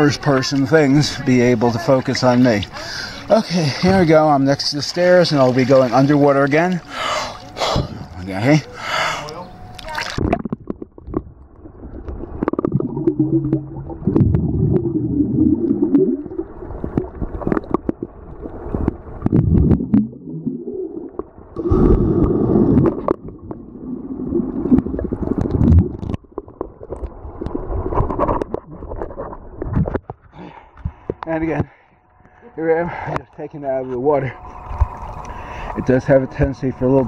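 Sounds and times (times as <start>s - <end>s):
muffled underwater rumbling and gurgling: 0.0s - 37.0s.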